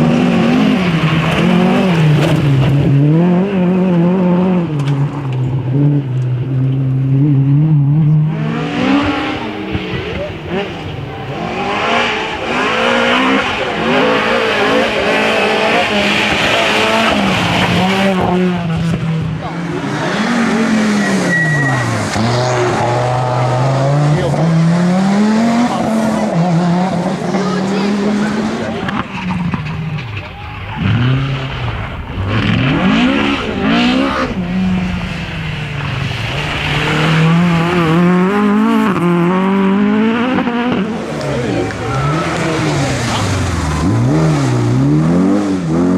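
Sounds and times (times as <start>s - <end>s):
rally car engine revving: 0.0s - 45.9s.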